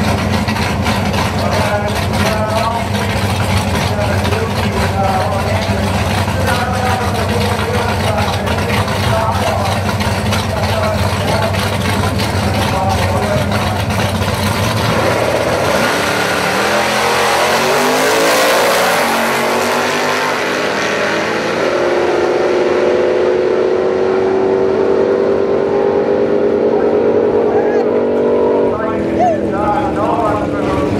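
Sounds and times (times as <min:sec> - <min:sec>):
drag race cars idling: 0:00.0 - 0:30.9
race car engines revving hard: 0:00.0 - 0:30.9.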